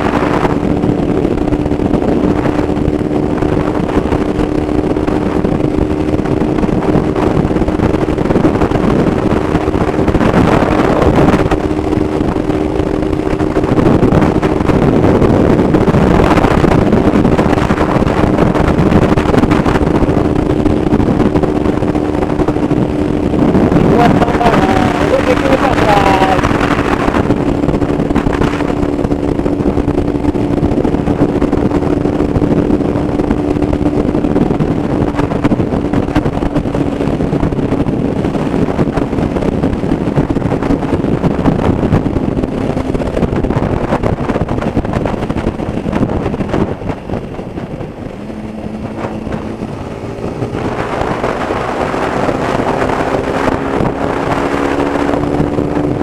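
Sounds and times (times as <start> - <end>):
motorcycle engine running: 0.0 - 56.0
wind rush on microphone: 0.0 - 56.0.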